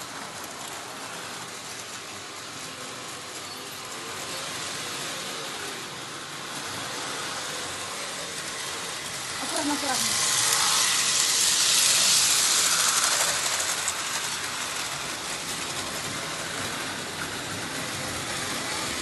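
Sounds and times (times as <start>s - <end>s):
locomotive motor whirring: 0.0s - 19.0s
model train wheels rattling on rails: 0.0s - 19.0s.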